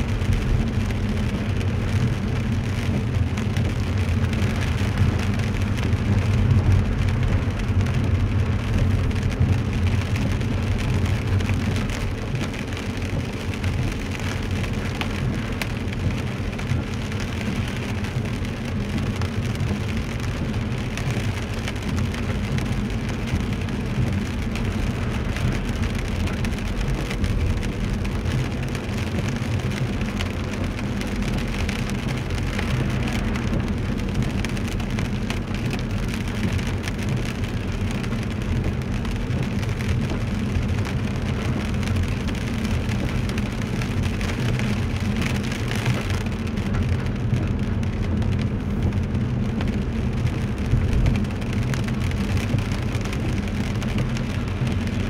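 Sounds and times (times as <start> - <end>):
rain on car windshield: 0.0 - 55.0
tyres rumbling on wet road: 0.0 - 55.0.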